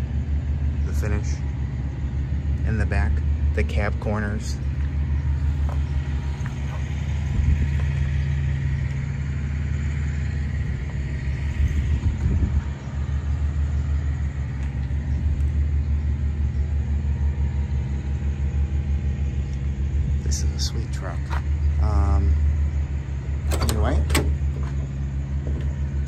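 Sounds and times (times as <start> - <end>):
pulsing mechanical rumble: 0.0 - 26.0.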